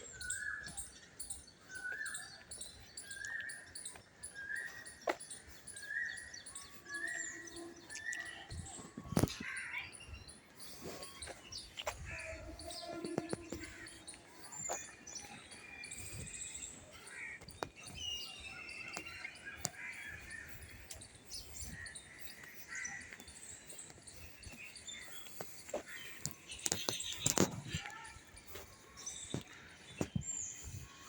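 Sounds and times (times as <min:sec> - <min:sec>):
birds chirping and calling: 0:00.0 - 0:31.0
faint outdoor ambience: 0:00.0 - 0:31.0.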